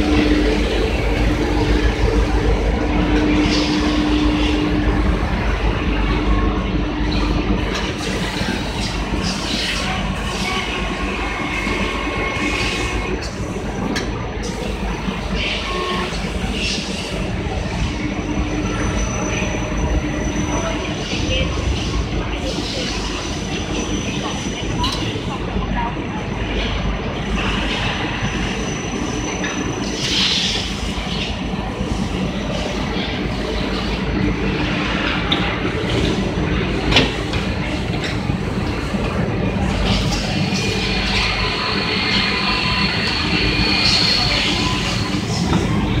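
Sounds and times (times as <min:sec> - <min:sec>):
factory machines low rumble: 0:00.0 - 0:46.0.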